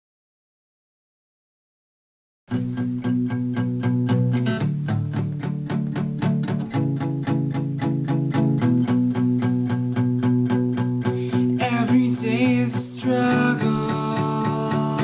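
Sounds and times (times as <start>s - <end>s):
acoustic guitar picked rhythm: 2.5s - 15.0s.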